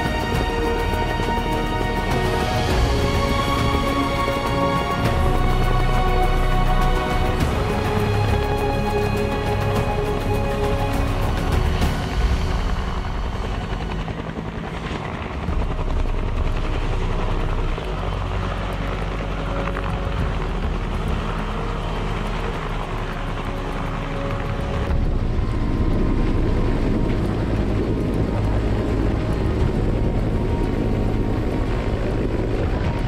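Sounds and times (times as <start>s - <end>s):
close helicopter rotor and engine: 0.0s - 33.0s
helicopter hovering: 0.0s - 33.0s.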